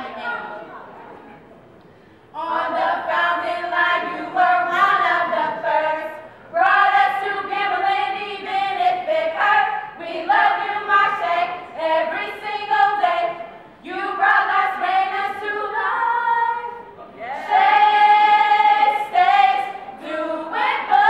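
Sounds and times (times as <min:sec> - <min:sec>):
women singing without accompaniment: 0:02.4 - 0:16.8, 0:17.4 - 0:21.0.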